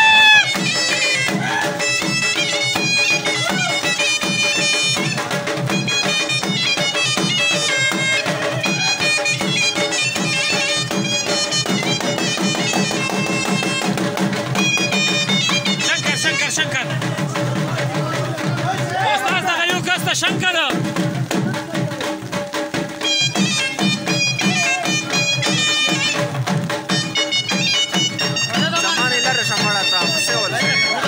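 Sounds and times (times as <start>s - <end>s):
dhol drum beat: 0.0s - 31.0s
reed shawm folk dance melody: 0.0s - 31.0s.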